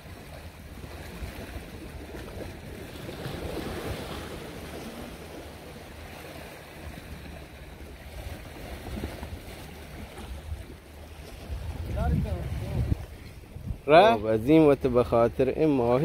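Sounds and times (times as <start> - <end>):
sea water lapping on rocks: 0.0 - 16.0
wind rumbling on microphone: 0.0 - 16.0.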